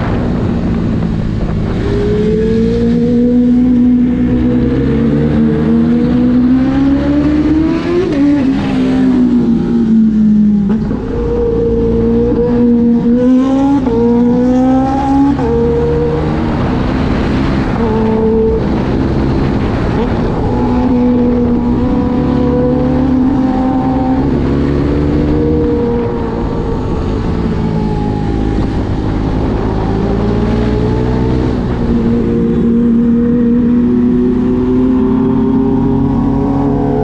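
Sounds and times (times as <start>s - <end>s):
motorcycle engine revving: 0.0s - 37.0s
wind noise: 0.0s - 37.0s.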